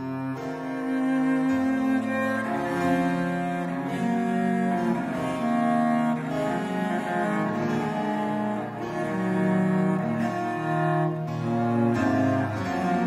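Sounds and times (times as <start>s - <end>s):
low bowed string instrument: 0.0s - 13.0s.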